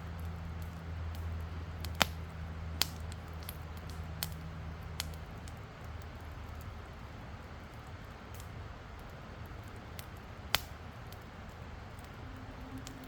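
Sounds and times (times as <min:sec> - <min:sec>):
campfire crackling and popping: 0:00.0 - 0:13.0
low steady hum: 0:00.0 - 0:13.0.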